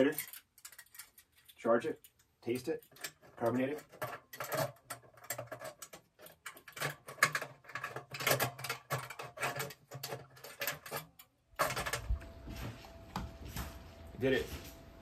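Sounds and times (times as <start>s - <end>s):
metallic clicks and rattles: 0.0s - 12.2s.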